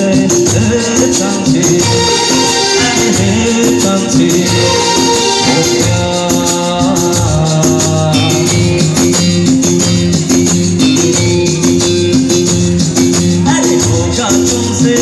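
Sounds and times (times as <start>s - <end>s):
loud amplified music: 0.0s - 15.0s.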